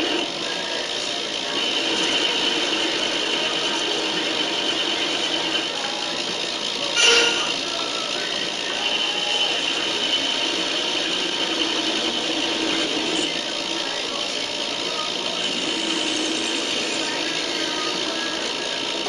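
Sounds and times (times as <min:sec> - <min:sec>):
high-pitched whine: 0:00.0 - 0:19.0
lathe running: 0:00.0 - 0:19.0.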